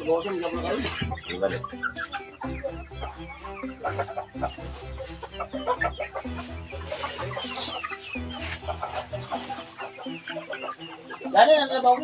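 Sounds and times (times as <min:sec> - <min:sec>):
background music with held bass: 0:00.0 - 0:12.0
chickens clucking: 0:00.0 - 0:12.0.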